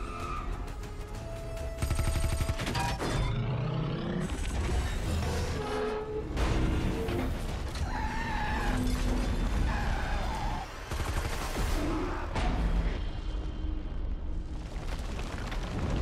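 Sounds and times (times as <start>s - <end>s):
film score music: 0.0s - 15.0s.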